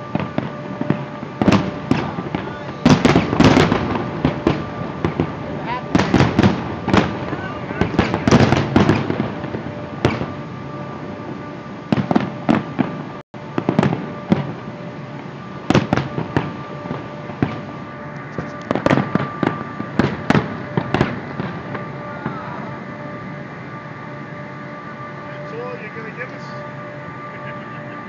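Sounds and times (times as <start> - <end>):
fireworks bangs and crackles: 0.0 - 28.0
rumble of fireworks display: 0.0 - 28.0.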